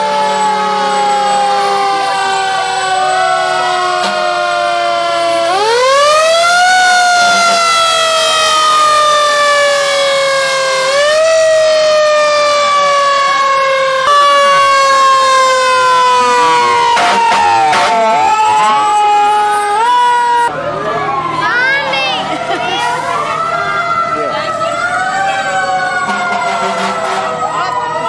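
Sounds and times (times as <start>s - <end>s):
fire engine sirens wailing: 0.0s - 28.0s.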